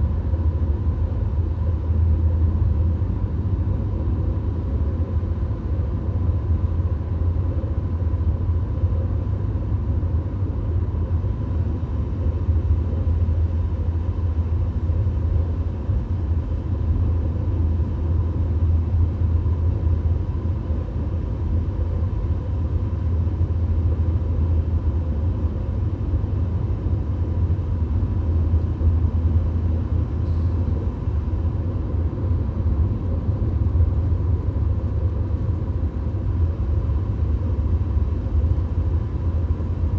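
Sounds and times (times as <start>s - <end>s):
road and engine rumble inside car: 0.0s - 39.9s.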